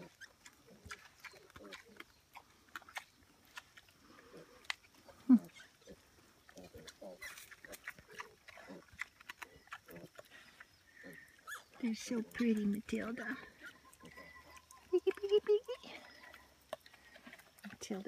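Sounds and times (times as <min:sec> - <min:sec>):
pigs grunting: 0:00.0 - 0:03.1, 0:04.0 - 0:12.4, 0:13.2 - 0:18.0.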